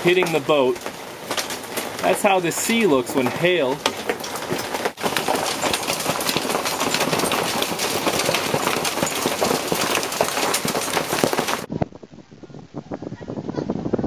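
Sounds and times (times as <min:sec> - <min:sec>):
hail rattling on a boat: 0:00.0 - 0:11.7.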